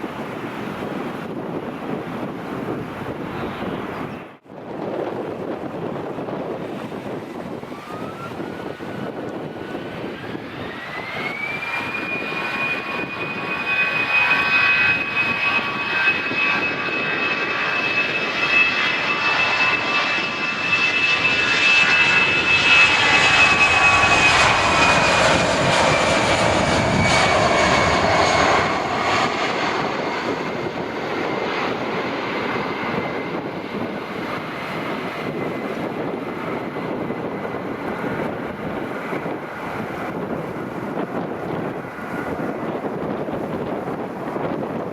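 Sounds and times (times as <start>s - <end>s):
jet engine roar: 0.0s - 44.9s
jet engines whining: 0.0s - 44.9s.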